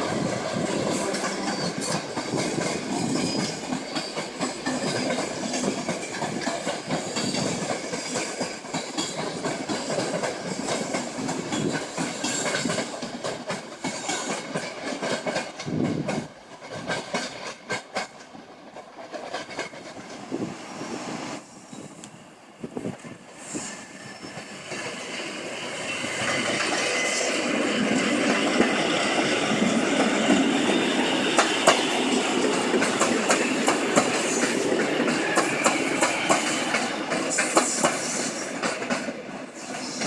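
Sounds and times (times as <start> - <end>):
train wheels clattering over rails: 0.0 - 21.9, 22.7 - 40.0.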